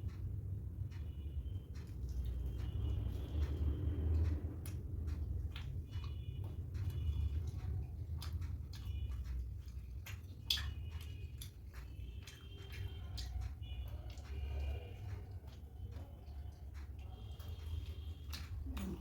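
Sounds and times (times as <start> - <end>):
person chewing food: 0.1 - 19.0.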